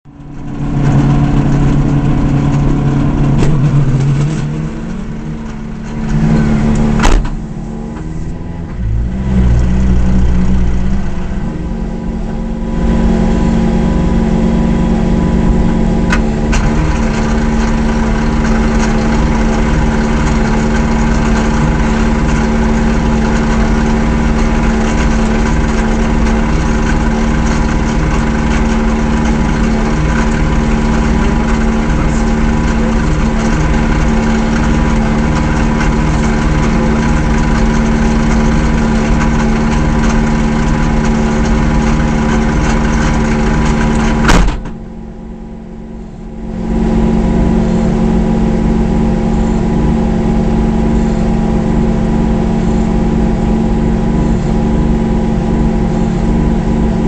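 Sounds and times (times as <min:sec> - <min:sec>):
rally car engine revving: 0:00.1 - 0:57.0.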